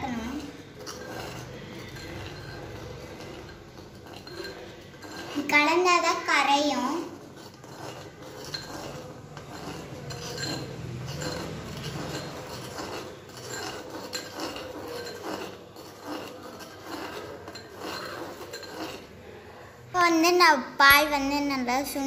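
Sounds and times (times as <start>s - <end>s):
metal spoon stirring in clay pot: 0.0s - 22.0s.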